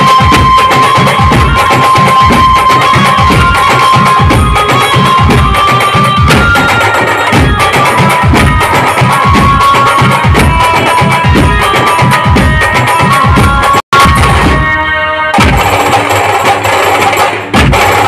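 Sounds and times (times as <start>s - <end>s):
fast dense drumming: 0.0s - 14.8s, 15.4s - 18.0s
held lead melody: 0.0s - 15.9s.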